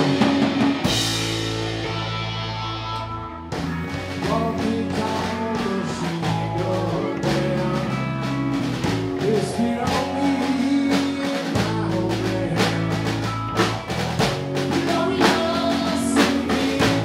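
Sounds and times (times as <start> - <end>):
drum kit beat: 0.0 - 17.0
electric bass: 0.0 - 17.0
electric guitar: 0.0 - 17.0.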